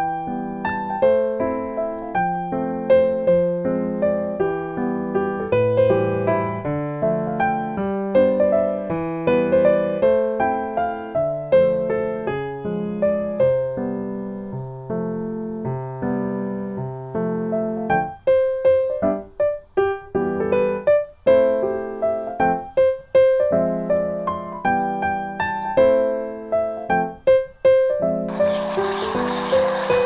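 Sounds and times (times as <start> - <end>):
light piano melody: 0.0 - 30.0.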